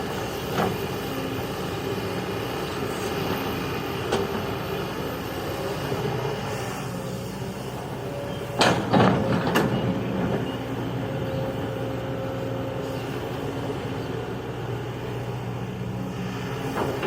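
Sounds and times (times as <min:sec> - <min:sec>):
diesel excavator engine running: 0:00.0 - 0:17.0.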